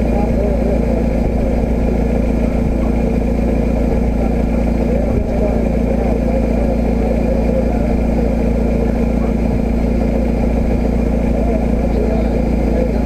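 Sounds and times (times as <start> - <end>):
vehicle engine running steadily: 0.0 - 13.0.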